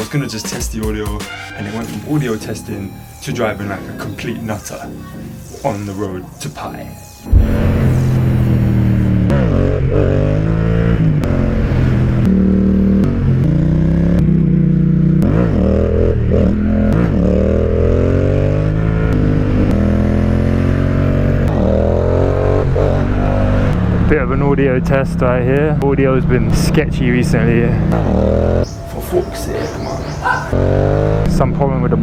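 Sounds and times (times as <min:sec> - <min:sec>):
motorcycle engine revving through gears: 0:02.0 - 0:32.0.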